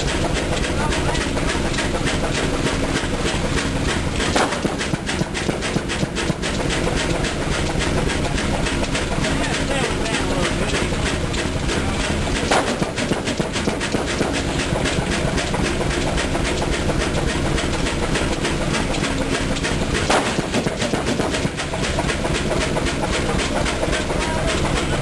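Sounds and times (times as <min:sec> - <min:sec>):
diesel engine clattering: 0:00.0 - 0:25.0.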